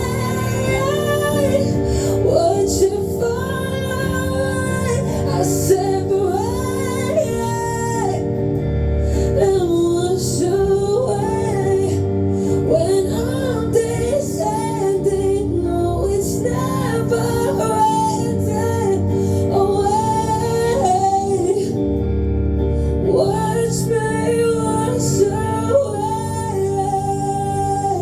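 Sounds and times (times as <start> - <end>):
woman singing: 0.0 - 8.5, 9.1 - 22.1, 23.0 - 28.0.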